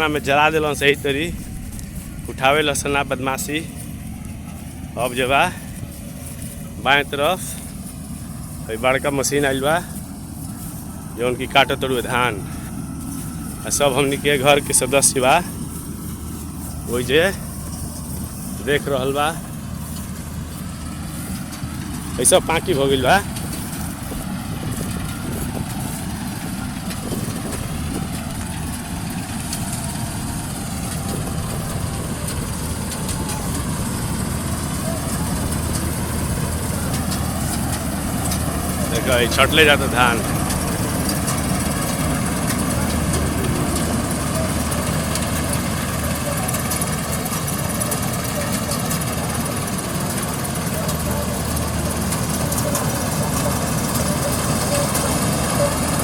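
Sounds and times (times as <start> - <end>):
combine harvester engine droning: 0.0 - 56.0.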